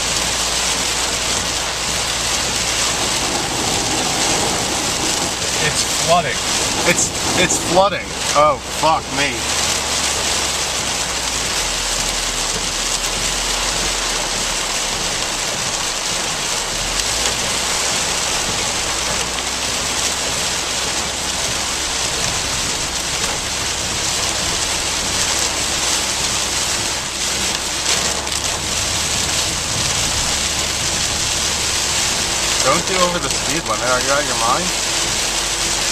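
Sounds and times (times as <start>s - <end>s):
heavy rain on car: 0.0s - 35.9s
low hum of moving car: 0.0s - 35.9s.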